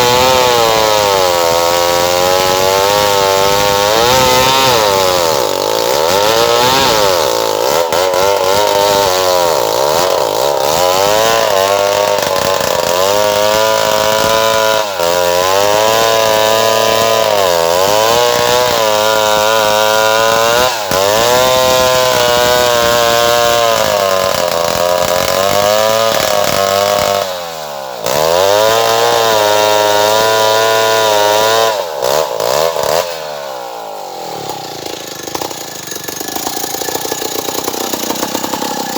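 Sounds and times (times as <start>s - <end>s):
chainsaw cutting into tree: 0.0s - 38.9s.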